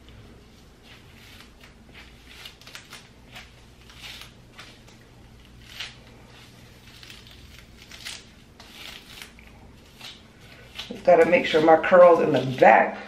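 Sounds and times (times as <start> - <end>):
brush squishing through wet hair: 0.8 - 12.8.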